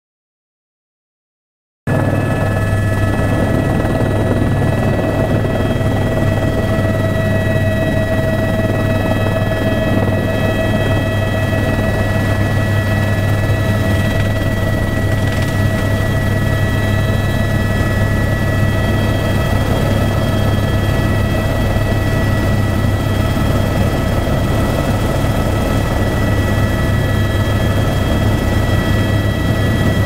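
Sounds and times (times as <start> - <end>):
helicopter engine and rotor hum: 1.9 - 30.0.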